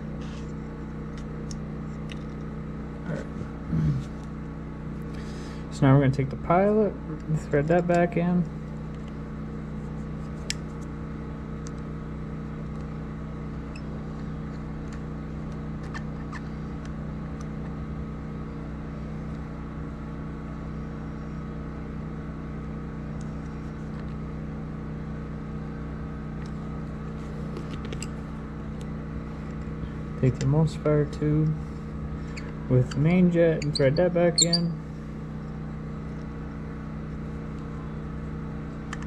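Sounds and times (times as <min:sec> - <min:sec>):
steady machine hum: 0:00.0 - 0:39.0.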